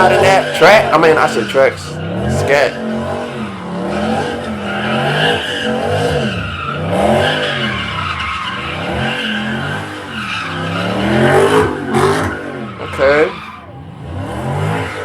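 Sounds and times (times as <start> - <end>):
car engine revving: 0.0 - 15.0
tyres squealing: 0.0 - 15.0.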